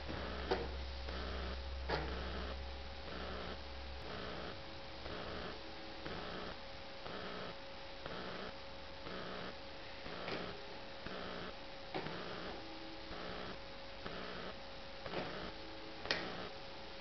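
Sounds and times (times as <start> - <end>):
electric motors whining: 0.0 - 16.6
steady electrical hum: 0.0 - 17.0.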